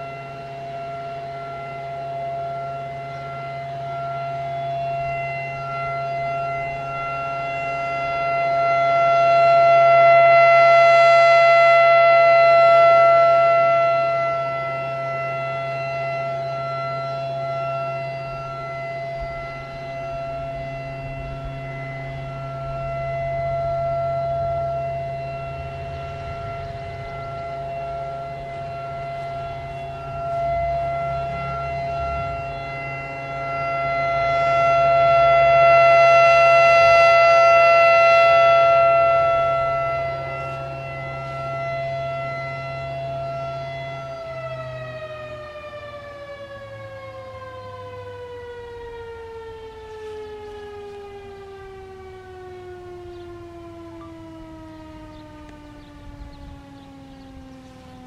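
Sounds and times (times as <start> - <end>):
siren alert tone: 0.0 - 58.0.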